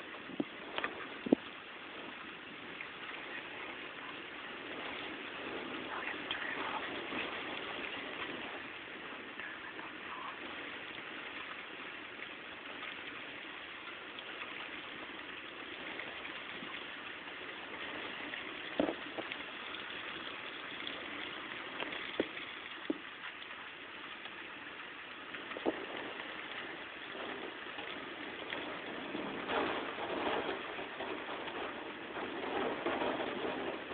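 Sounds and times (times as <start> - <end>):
rain behind window glass: 0.0 - 33.9.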